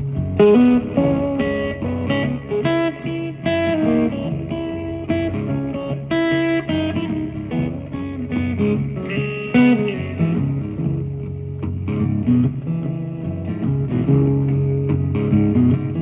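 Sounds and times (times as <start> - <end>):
guitar playing: 0.0 - 16.0.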